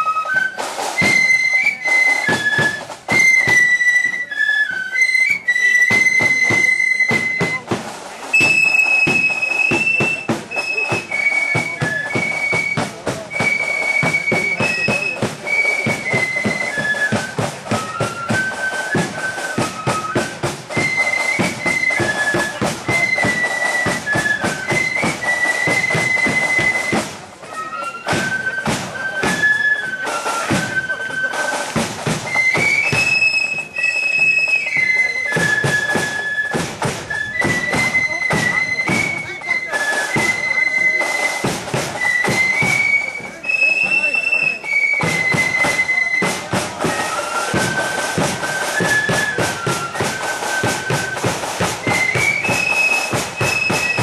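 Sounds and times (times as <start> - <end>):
drum beats: 0.0 - 54.0
flutes playing melody: 0.0 - 54.0.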